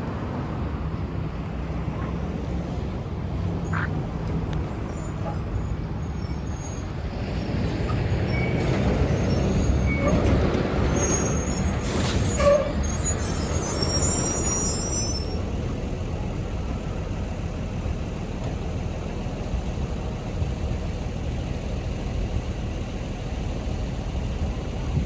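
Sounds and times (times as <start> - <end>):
diesel bus engine: 0.0 - 25.0.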